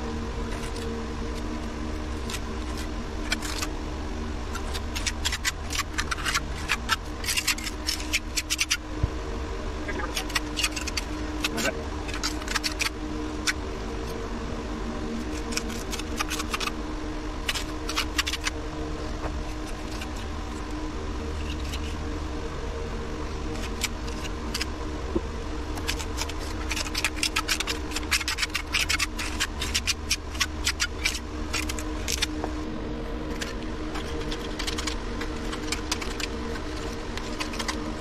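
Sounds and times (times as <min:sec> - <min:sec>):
steady background hum: 0:00.0 - 0:38.0.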